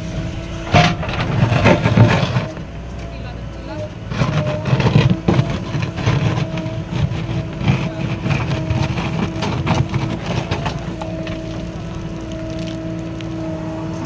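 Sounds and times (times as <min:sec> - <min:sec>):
knocks and clatter: 0:00.0 - 0:03.1, 0:04.1 - 0:14.0
diesel engine running with whine: 0:00.0 - 0:14.0.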